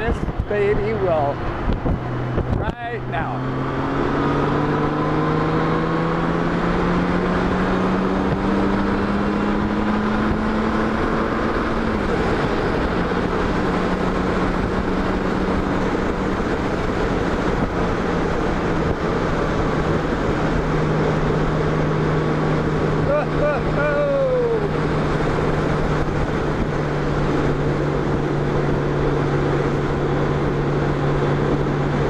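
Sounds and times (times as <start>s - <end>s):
motorcycle engine accelerating: 0.0s - 32.0s
wind and road noise: 0.0s - 32.0s.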